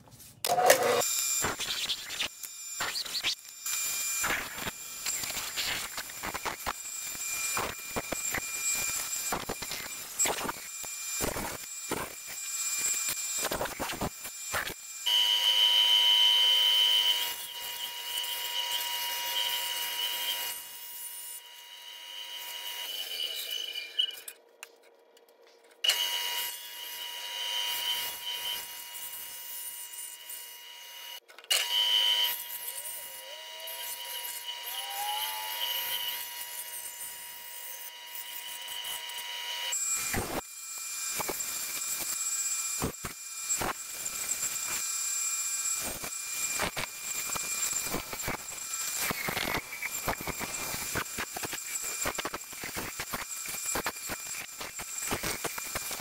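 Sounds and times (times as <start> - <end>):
bandsaw whining: 0.4 - 24.4, 25.8 - 56.0.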